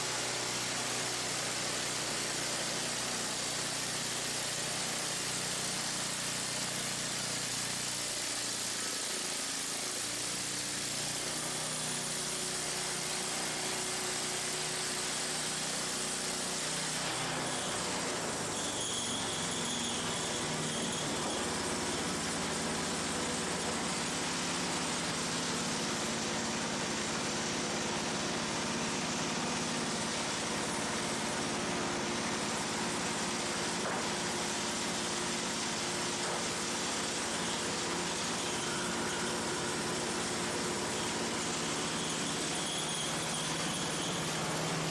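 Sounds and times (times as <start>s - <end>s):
band saw cutting wood: 0.0s - 44.9s.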